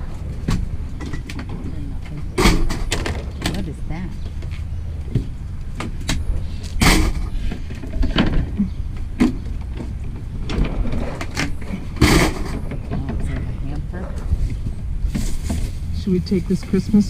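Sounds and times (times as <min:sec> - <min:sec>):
low rumble: 0:00.0 - 0:17.0
scrap items clunking: 0:00.1 - 0:16.8.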